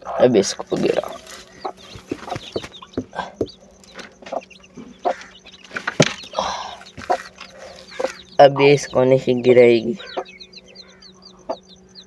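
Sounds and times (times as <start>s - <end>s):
hen clucking: 0.0s - 12.0s.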